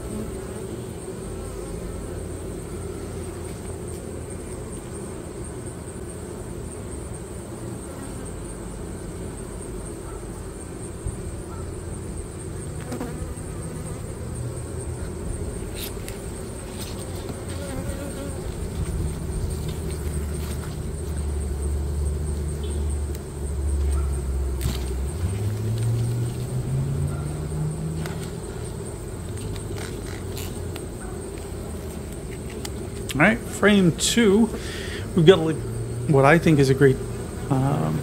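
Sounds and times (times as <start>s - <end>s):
bees buzzing: 0.0s - 38.0s.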